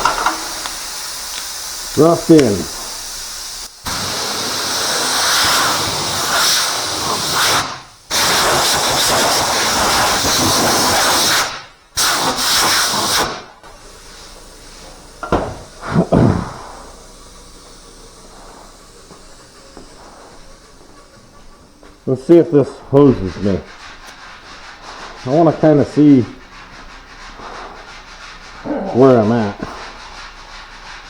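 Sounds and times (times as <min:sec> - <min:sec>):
air file sanding hissing rasp: 0:00.0 - 0:31.0.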